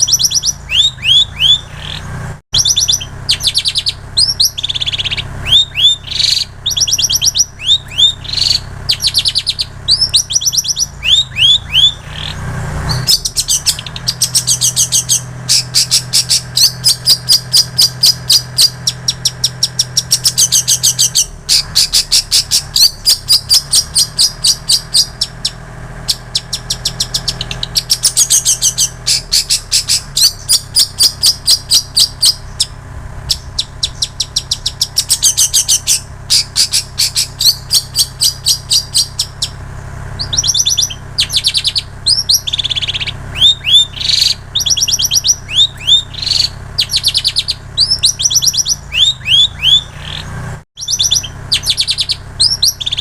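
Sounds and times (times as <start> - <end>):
bird chattering trills: 0.0 - 53.0
bird whistling song: 0.0 - 53.0.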